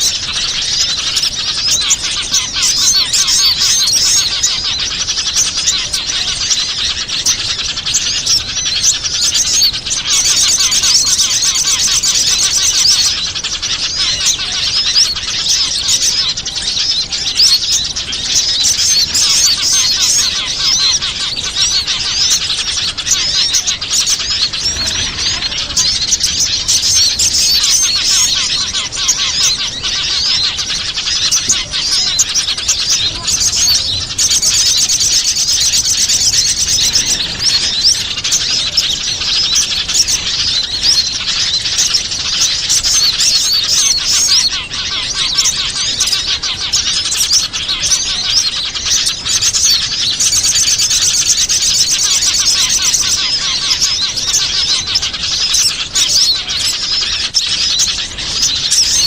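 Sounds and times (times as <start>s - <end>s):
fast high bird trills: 0.0s - 59.0s
small birds chirping and twittering: 0.0s - 59.0s.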